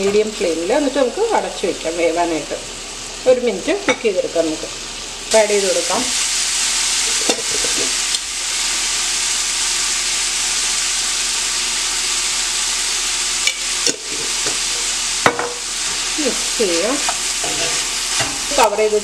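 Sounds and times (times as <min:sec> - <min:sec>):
chicken sizzling in a skillet: 0:00.0 - 0:19.0.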